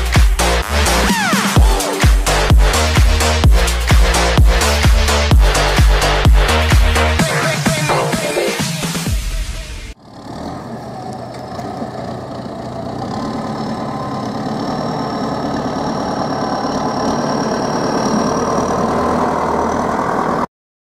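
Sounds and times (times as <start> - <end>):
tractor diesel engine under load: 0.0 - 20.5.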